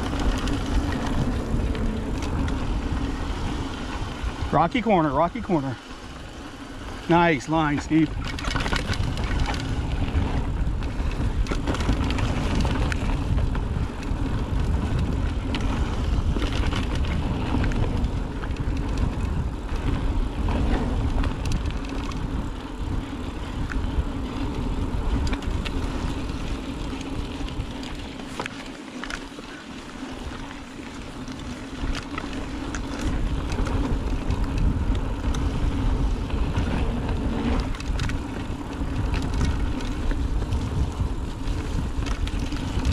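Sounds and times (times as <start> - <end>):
wind on microphone: 0.0 - 28.6, 30.0 - 42.9
bike rattling: 0.0 - 42.9
bike tyres over dirt: 0.0 - 42.9.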